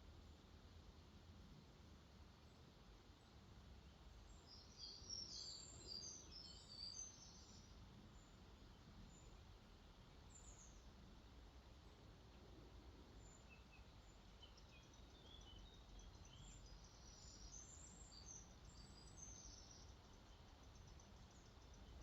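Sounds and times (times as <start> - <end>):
faint birdsong: 0.0 - 22.0.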